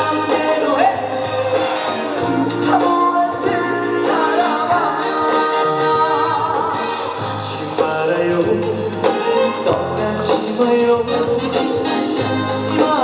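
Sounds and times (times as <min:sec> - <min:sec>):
band backing track: 0:00.0 - 0:13.0
man singing with vibrato: 0:00.0 - 0:13.0.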